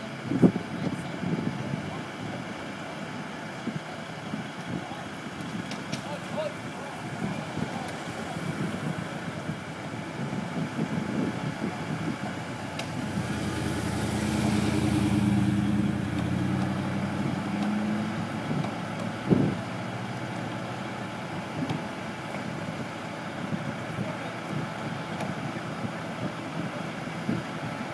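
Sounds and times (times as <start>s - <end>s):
truck engine running: 0.0s - 27.9s.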